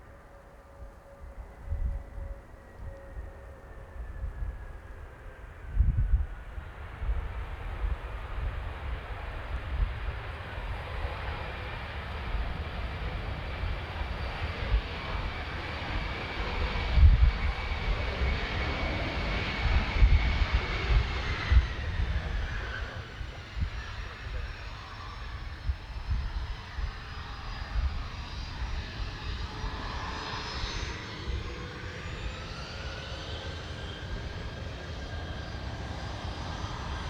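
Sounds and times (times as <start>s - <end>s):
jet engines whining in flyby: 0.0s - 37.0s
wind buffeting microphone: 5.5s - 37.0s.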